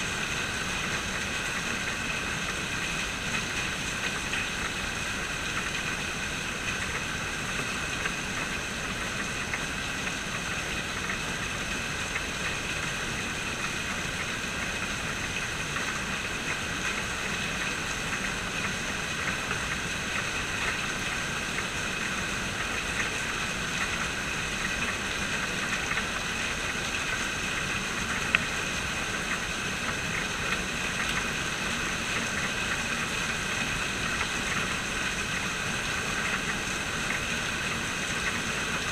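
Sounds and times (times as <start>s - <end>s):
steady rain on hard surfaces: 0.0s - 38.9s.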